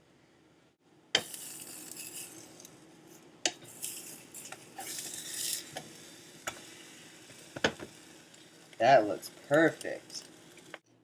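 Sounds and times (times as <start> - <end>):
food hissing in a pot: 1.2 - 10.8.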